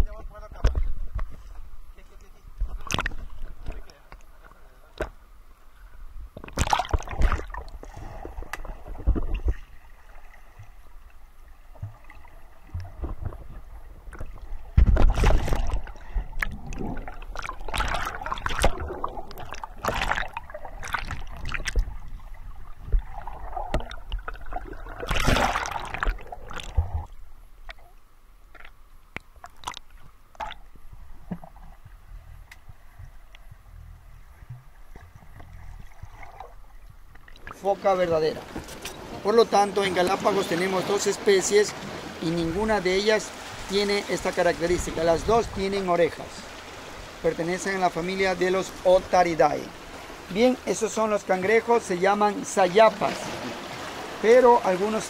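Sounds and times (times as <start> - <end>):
water sloshing and splashing: 2.6 - 5.2, 6.2 - 55.0.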